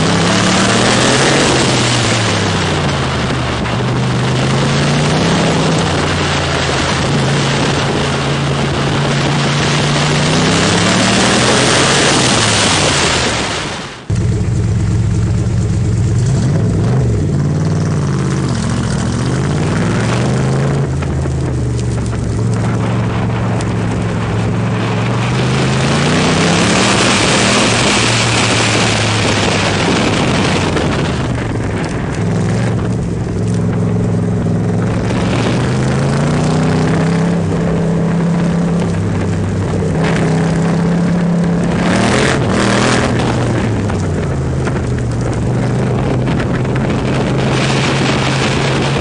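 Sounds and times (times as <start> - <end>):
sports car engine accelerating: 0.0 - 13.4, 14.0 - 49.0
steady rushing noise: 0.0 - 49.0.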